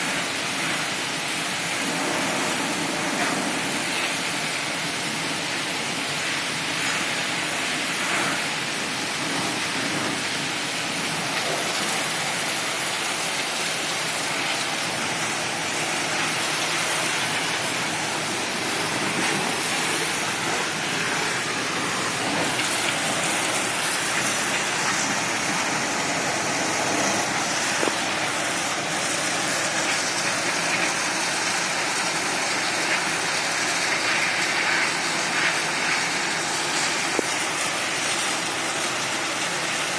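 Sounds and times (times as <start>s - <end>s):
pressure washer spray hiss: 0.0s - 39.9s.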